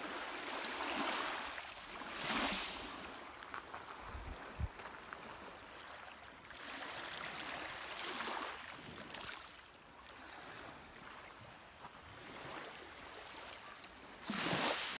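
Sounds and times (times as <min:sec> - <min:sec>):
waves lapping on pebbly shore: 0:00.0 - 0:15.0.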